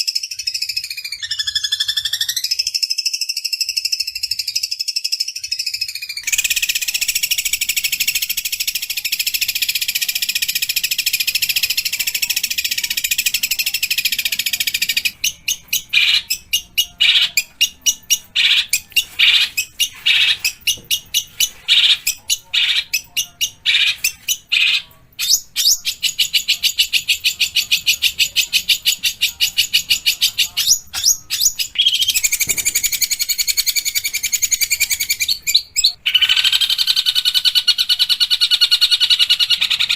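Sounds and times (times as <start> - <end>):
bird singing harsh rattles: 6.0 - 39.9.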